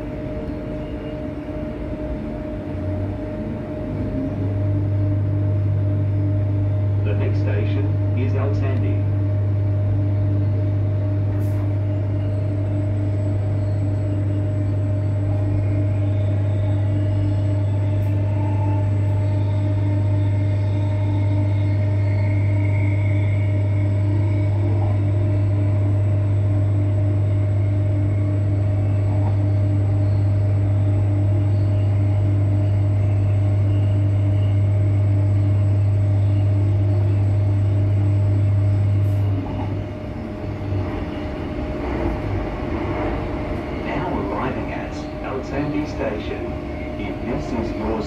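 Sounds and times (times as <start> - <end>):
electric train running drone: 0.0 - 48.0.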